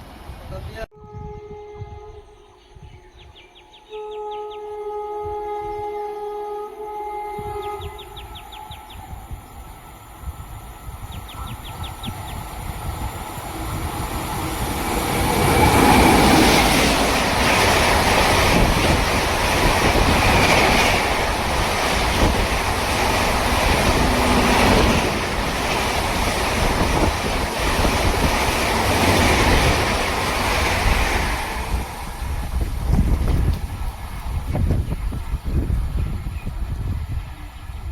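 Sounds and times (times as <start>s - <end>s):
electric train passing rumble: 0.0s - 37.9s.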